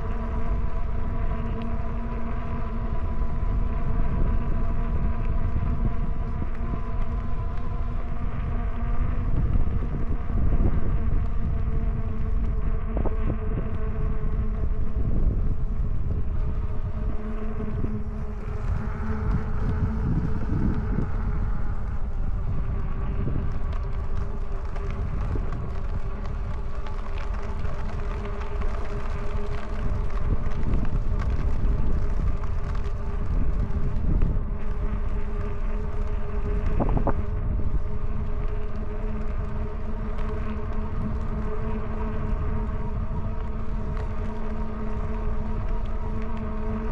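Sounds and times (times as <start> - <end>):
electric motor whine: 0.0 - 46.9
wind buffeting microphone: 0.0 - 46.9.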